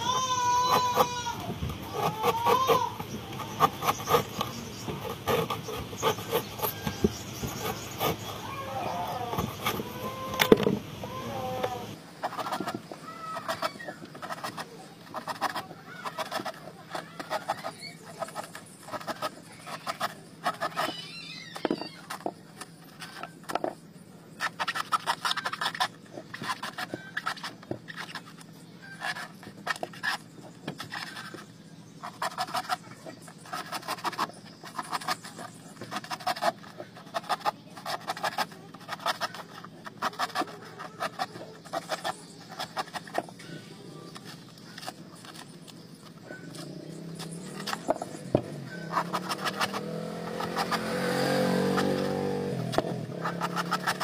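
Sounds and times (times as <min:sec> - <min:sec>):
knife scraping coconut husk: 0:00.0 - 0:23.7, 0:24.3 - 0:54.0.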